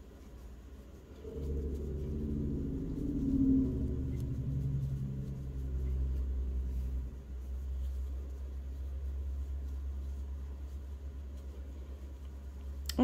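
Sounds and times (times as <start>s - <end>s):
droning hum: 0.0s - 13.0s
low rumble: 0.0s - 13.0s.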